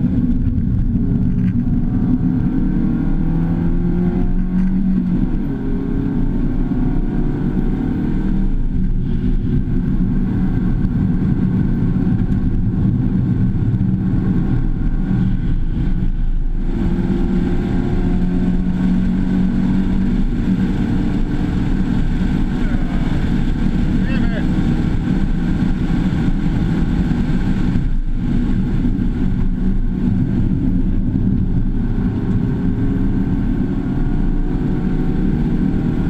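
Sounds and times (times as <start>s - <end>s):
road and tyre noise: 0.0s - 36.0s
car engine revving high: 1.0s - 36.0s.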